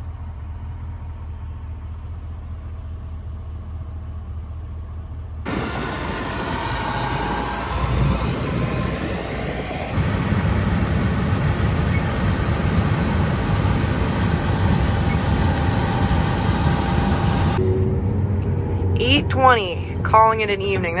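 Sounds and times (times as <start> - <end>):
diesel farm machine running: 0.0 - 21.0.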